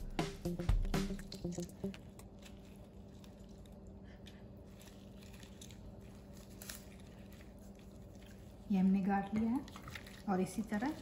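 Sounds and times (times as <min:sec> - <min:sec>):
faint steady hum: 0:00.0 - 0:11.0
wet squishing of lemon squeezed: 0:00.5 - 0:11.0.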